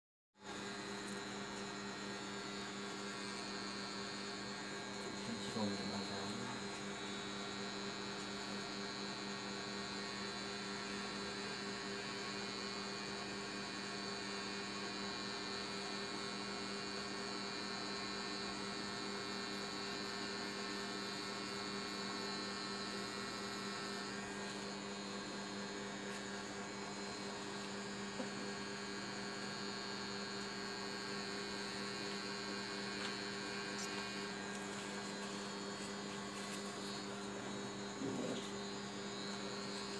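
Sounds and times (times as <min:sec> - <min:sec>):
tattoo machine humming: 0:00.4 - 0:39.9.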